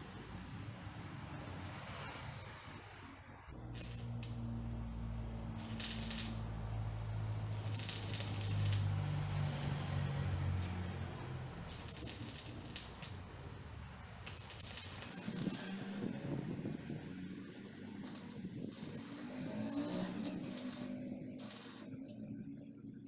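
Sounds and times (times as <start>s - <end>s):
welding arc crackling: 0.0s - 22.4s.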